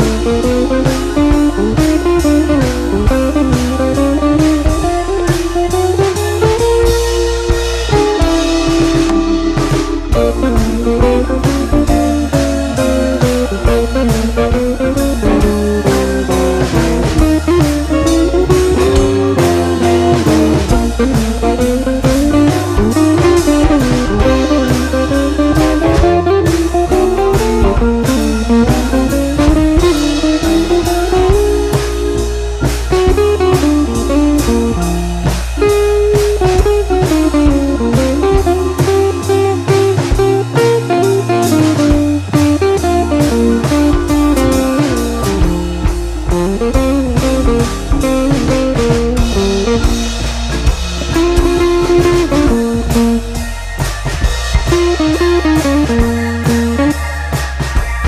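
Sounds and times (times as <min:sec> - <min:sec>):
guitar-led instrumental with drums: 0:00.0 - 0:58.0.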